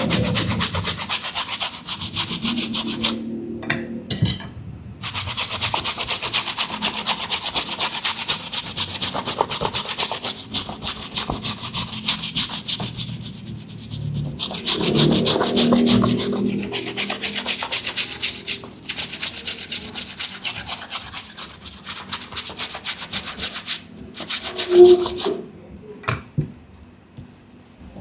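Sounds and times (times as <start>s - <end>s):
stiff brush scrubbing a shoe: 0.0s - 3.1s, 5.0s - 25.3s.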